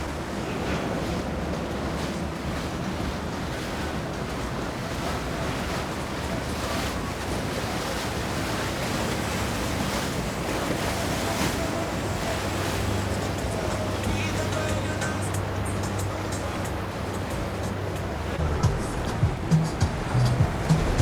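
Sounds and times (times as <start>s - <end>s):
water rushing: 0.0s - 21.0s
wind on microphone: 0.0s - 21.0s.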